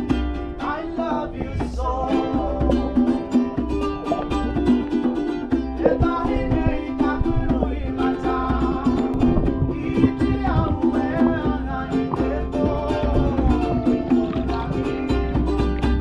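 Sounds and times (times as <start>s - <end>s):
song with plucked strings and voice: 0.0s - 16.0s.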